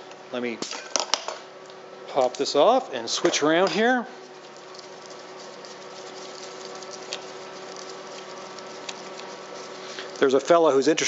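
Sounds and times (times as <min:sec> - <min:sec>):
workshop hiss and hum: 0:00.0 - 0:11.0.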